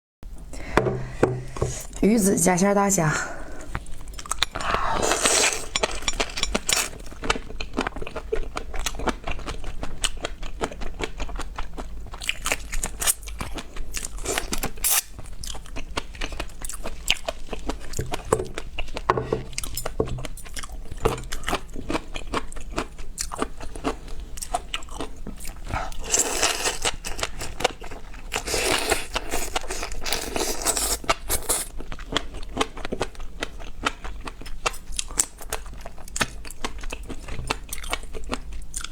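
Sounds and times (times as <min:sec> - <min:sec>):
crunching and chewing food: 0:03.7 - 0:38.9.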